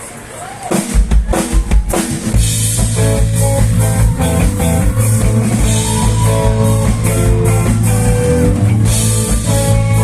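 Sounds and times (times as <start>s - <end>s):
rock band playing: 0.7s - 10.0s.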